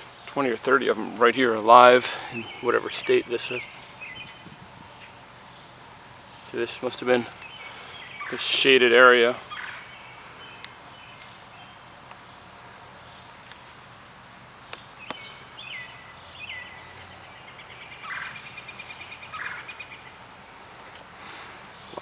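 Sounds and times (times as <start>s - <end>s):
songbird chirping and trilling: 0.0s - 20.3s
steady outdoor hiss: 0.0s - 22.0s.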